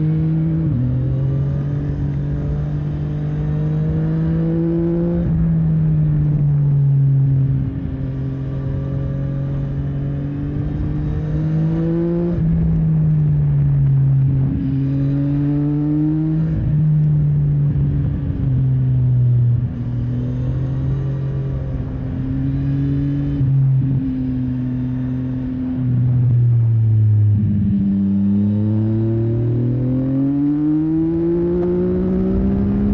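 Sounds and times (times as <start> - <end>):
motorcycle engine accelerating: 0.0 - 32.9.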